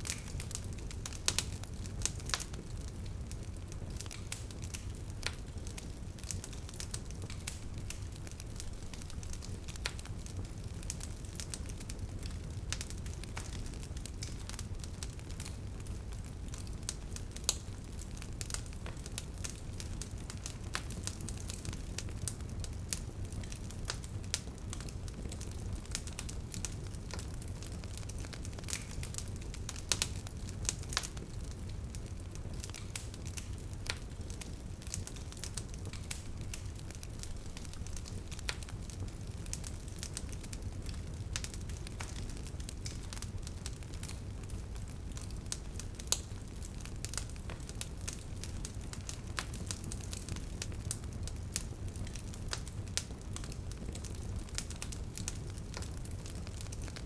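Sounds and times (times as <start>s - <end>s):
low roar of burning flames: 0.0s - 57.0s
wood fire crackling and popping: 0.0s - 57.0s.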